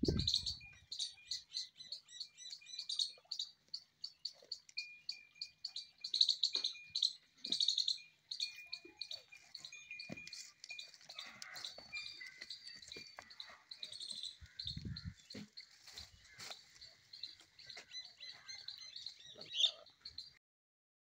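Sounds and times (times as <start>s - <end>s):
birds chirping: 0.0s - 20.4s.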